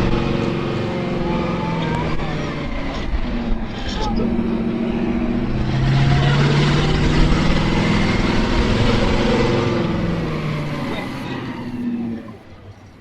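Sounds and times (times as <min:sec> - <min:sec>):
large vehicle engine running: 0:00.0 - 0:13.0.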